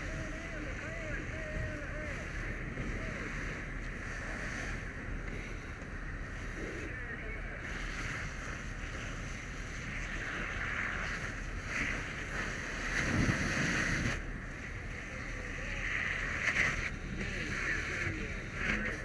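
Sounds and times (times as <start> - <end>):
water spraying from fire hose: 0.0 - 19.0.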